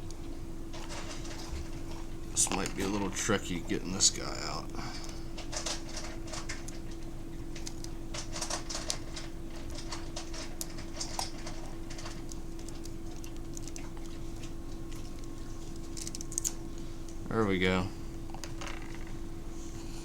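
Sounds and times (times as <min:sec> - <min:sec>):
light clicks and scratches of parts: 0:00.0 - 0:03.2, 0:04.3 - 0:17.5
steady low hum: 0:00.0 - 0:20.0.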